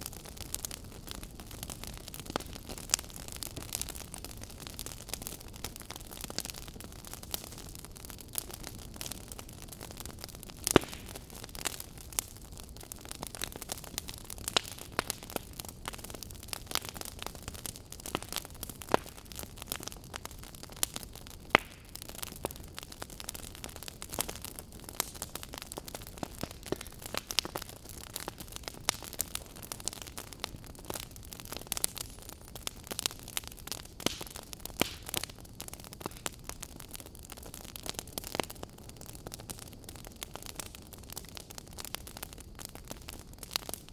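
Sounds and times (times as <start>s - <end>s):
fire snaps and pops: 0.0s - 43.9s
firewood crackling: 0.0s - 43.9s.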